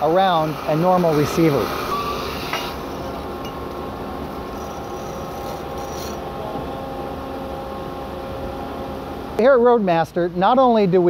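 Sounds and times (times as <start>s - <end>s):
band saw humming: 0.0s - 9.4s.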